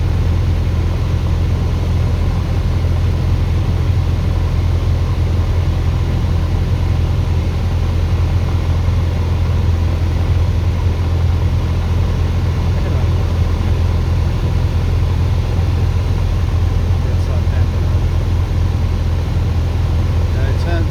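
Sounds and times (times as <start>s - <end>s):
light aircraft engine drone: 0.0s - 20.9s.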